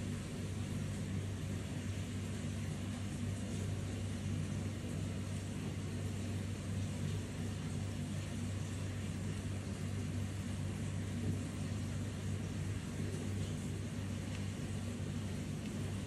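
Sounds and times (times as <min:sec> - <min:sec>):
constant hiss: 0:00.0 - 0:16.0
low electrical hum: 0:00.0 - 0:16.0.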